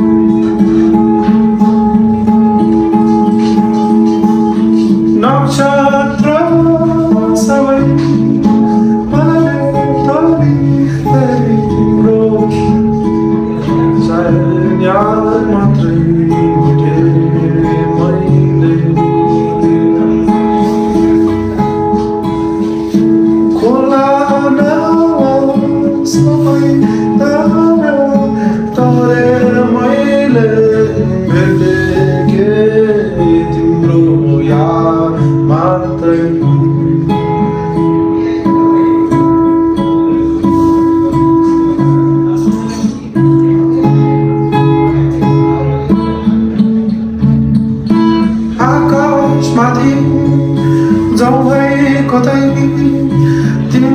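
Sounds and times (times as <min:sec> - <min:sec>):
acoustic guitar: 0:00.0 - 0:53.9
man singing: 0:00.0 - 0:53.9.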